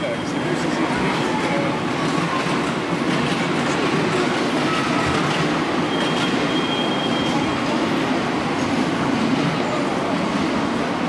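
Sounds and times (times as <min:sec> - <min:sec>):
busy hall din: 0:00.0 - 0:11.0
model train running on track: 0:00.0 - 0:11.0.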